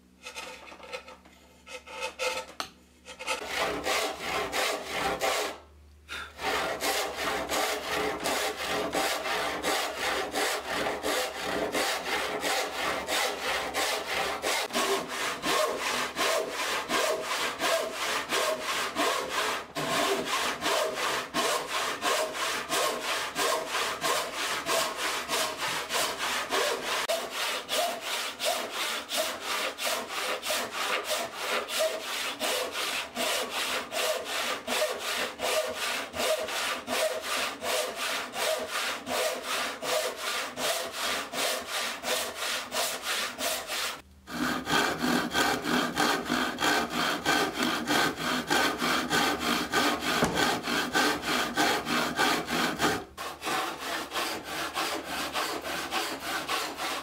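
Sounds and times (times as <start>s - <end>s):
handsaw cutting wood: 0.2s - 57.0s.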